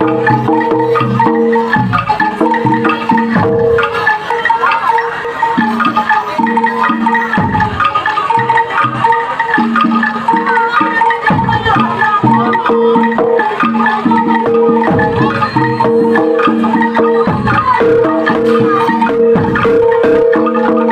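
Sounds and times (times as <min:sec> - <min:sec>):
metallophones striking notes: 0:00.0 - 0:20.9.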